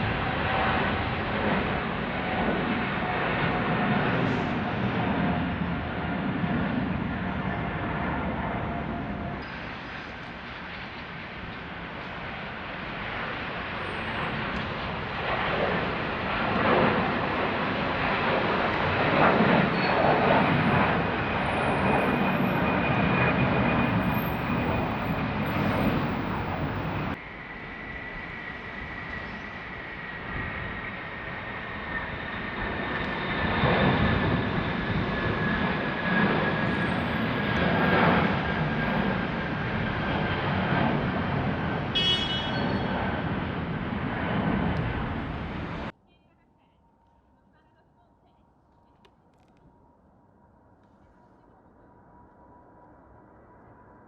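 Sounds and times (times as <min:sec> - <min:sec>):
jet engines roaring at takeoff: 0:00.0 - 0:46.0.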